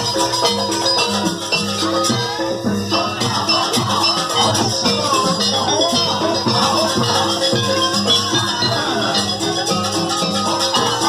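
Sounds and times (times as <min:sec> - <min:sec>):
struck percussion beat: 0:00.0 - 0:11.0
wavering melody line: 0:00.0 - 0:11.0.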